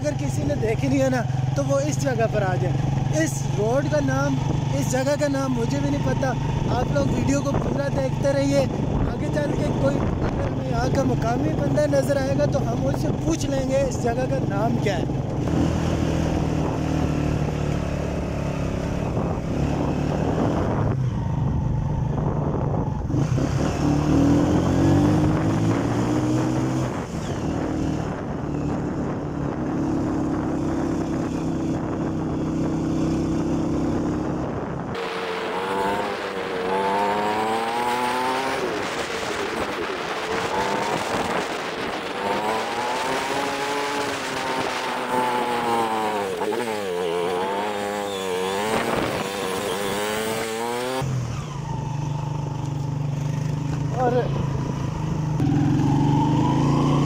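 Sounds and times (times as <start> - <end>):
motorcycle engine climbing in low gear: 0.0 - 57.0.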